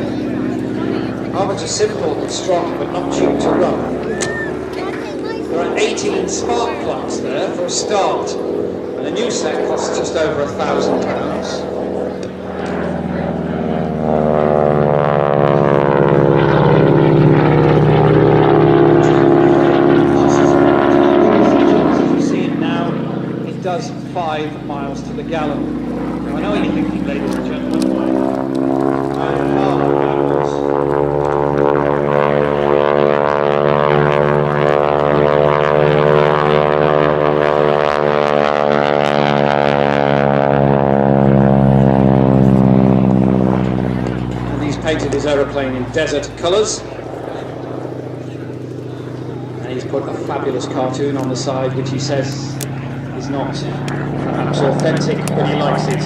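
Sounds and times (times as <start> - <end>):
propeller plane engine passing: 0.0 - 56.0.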